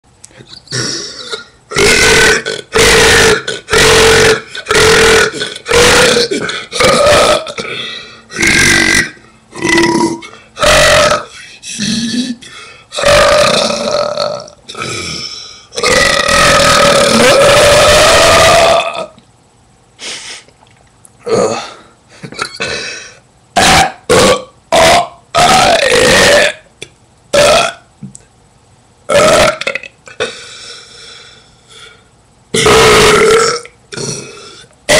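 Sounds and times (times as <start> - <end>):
person burping loudly: 0.4 - 19.2, 21.2 - 26.7, 27.3 - 27.9, 29.1 - 30.4, 32.6 - 34.9.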